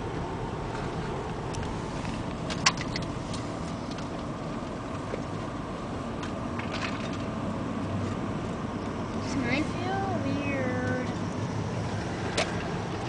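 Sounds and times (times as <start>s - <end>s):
city traffic from inside car: 0.0s - 13.0s.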